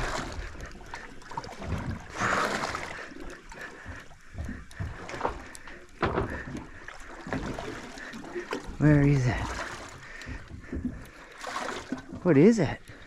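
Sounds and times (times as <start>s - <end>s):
water splashing against boat hull: 0.0s - 13.0s.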